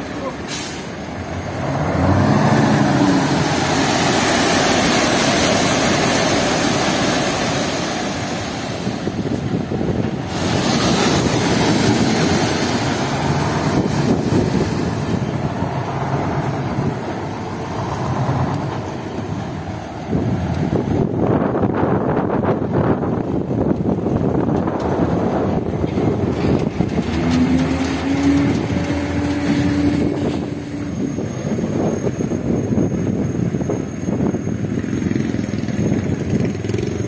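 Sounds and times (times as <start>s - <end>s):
diesel truck engines running: 0.0s - 37.0s
loud steady rushing noise: 0.0s - 37.0s.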